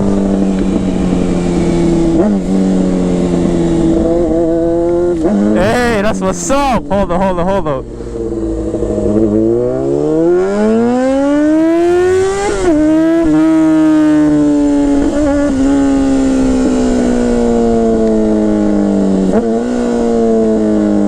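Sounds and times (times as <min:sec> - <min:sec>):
motorcycle engine accelerating hard: 0:00.0 - 0:06.0, 0:06.9 - 0:21.0.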